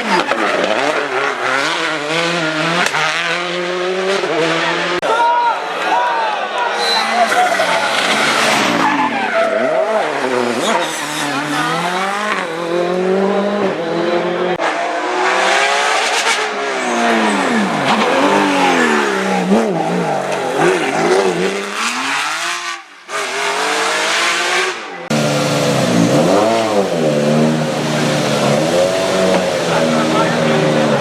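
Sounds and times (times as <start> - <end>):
rally car engine revving: 0.0 - 5.0, 6.9 - 31.0.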